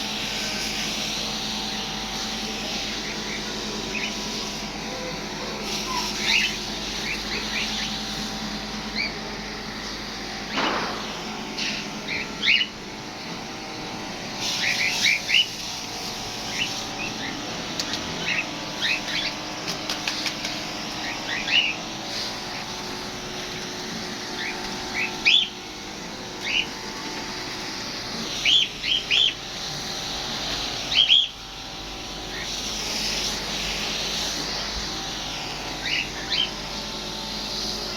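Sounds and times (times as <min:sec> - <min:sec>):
misting nozzles spraying hiss: 0:00.0 - 0:09.8, 0:13.4 - 0:37.9
small birds chirping: 0:00.1 - 0:37.9.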